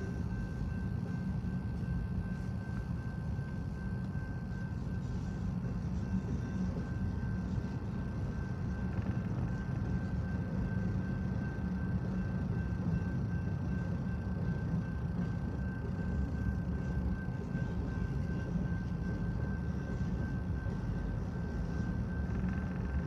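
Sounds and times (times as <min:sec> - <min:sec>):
freight train wheels rumbling on rail: 0:00.0 - 0:23.0.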